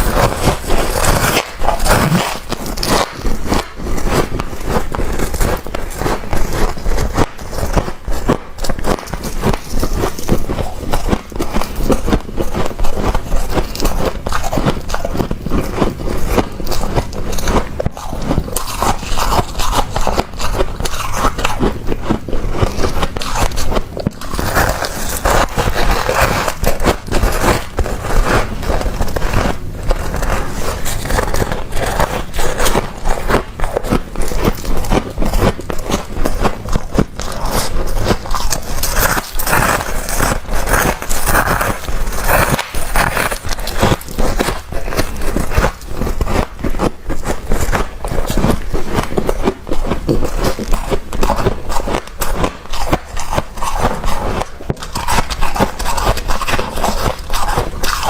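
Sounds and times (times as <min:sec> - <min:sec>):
frost crunching and scraping: 0:00.0 - 0:58.0.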